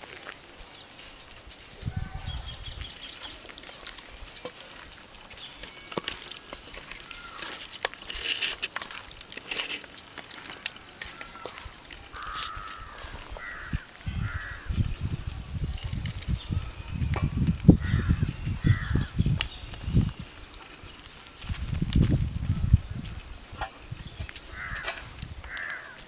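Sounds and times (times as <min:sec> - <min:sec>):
birds calling: 0:00.4 - 0:08.8, 0:09.4 - 0:14.7, 0:16.2 - 0:21.4, 0:23.5 - 0:26.0.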